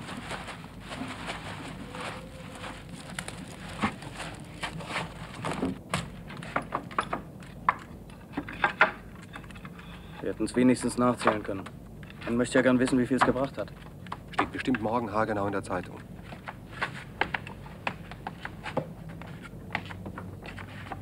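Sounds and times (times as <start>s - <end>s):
clicks and knocks of handling: 2.6s - 21.0s.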